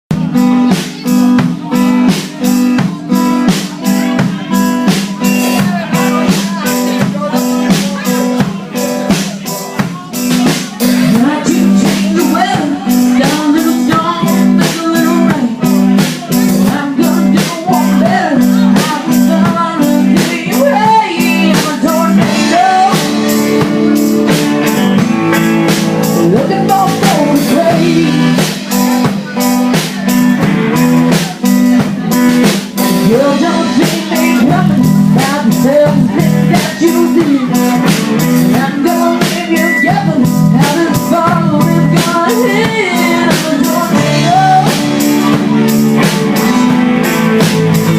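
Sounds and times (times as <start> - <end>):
drum kit: 0.1 - 47.9
electric guitar: 0.1 - 47.9
person singing: 0.1 - 47.9.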